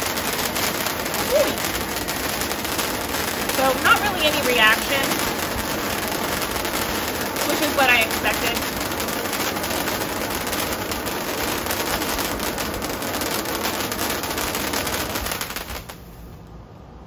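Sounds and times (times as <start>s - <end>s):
sparkler crackling: 0.0s - 16.4s.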